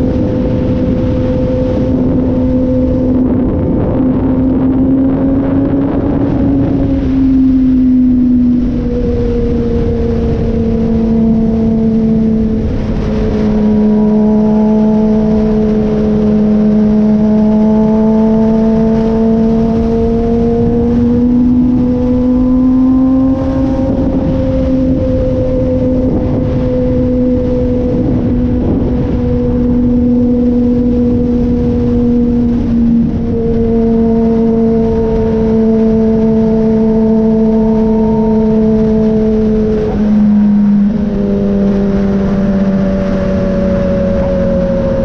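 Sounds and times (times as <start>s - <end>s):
motorcycle engine cruising: 0.0s - 45.0s
wind rush: 0.0s - 45.0s.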